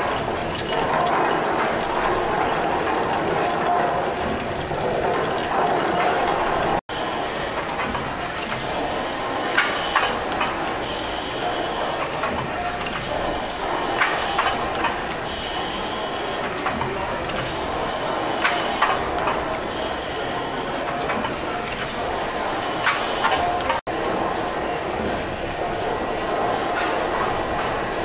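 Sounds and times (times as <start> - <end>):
steam engines running: 0.0 - 28.0.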